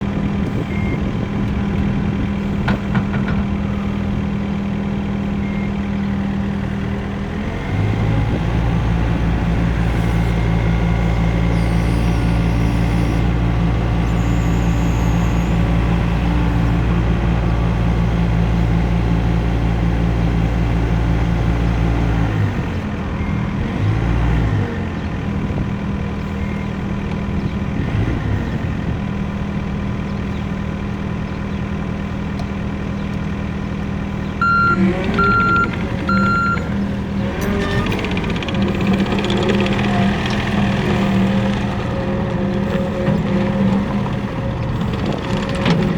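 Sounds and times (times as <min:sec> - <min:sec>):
heavy equipment engine running: 0:00.0 - 0:45.9.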